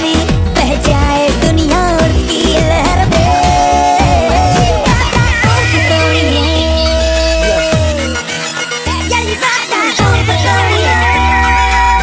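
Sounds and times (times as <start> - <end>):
sped-up electronic pop song: 0.0 - 12.0.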